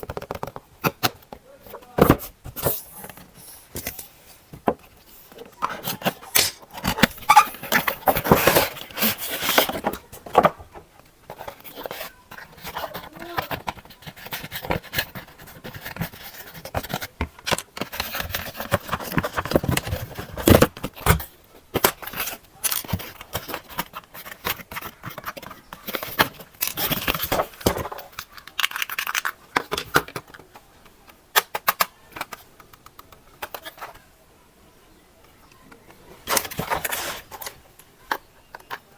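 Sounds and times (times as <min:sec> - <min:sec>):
packaging crackling and scraping: 0:00.0 - 0:34.0, 0:35.6 - 0:38.9
plastic parts clicking: 0:00.0 - 0:34.0, 0:35.5 - 0:38.9.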